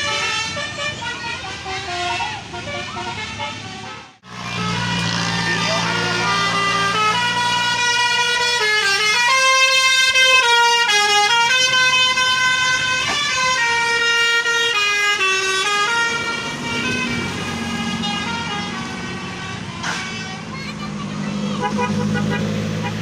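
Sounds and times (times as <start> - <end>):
musical air horn playing a melody: 0.0 - 20.5.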